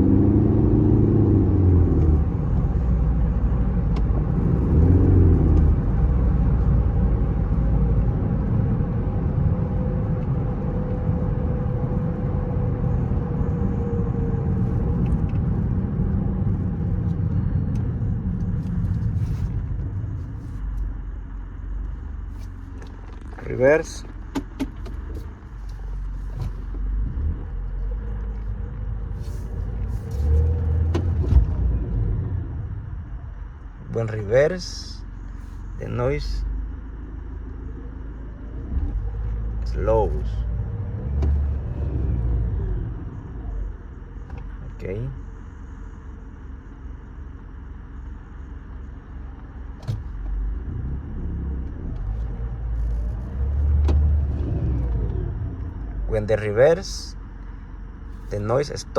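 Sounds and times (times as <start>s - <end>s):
car engine low rumble: 0.0s - 58.9s.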